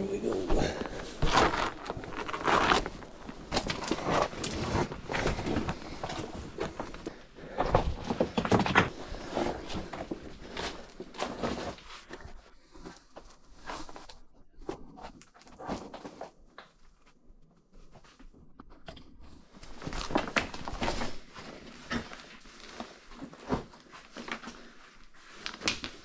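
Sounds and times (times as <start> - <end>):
rustling: 0.0 - 18.4, 19.4 - 26.0.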